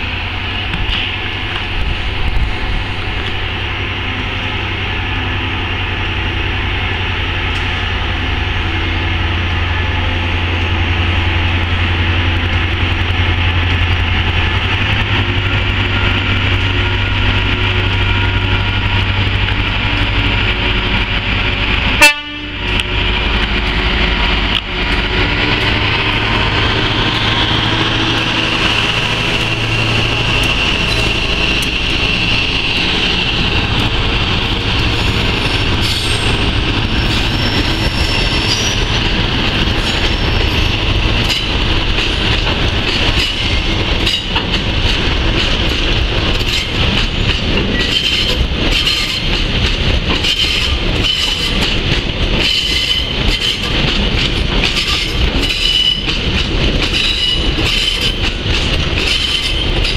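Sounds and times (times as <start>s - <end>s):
diesel locomotive engine drone: 0.0s - 59.9s
train rumble and rail noise: 0.0s - 59.9s.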